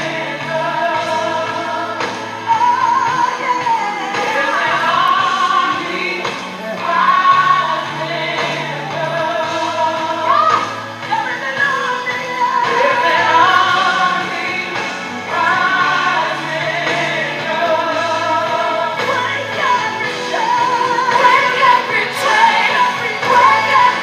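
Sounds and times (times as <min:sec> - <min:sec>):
gospel song: 0:00.0 - 0:24.0
person singing: 0:00.0 - 0:24.0.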